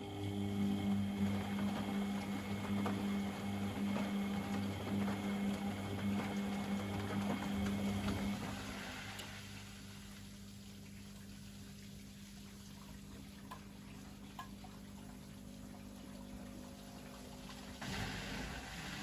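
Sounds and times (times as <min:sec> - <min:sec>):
washing machine motor humming: 0:00.0 - 0:19.0
water and laundry moving: 0:00.0 - 0:19.0.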